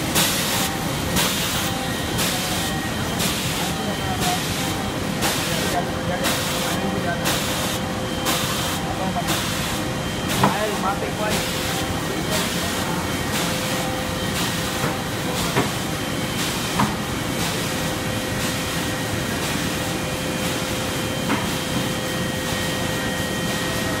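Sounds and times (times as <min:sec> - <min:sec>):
machine clatter and hum: 0:00.0 - 0:24.0.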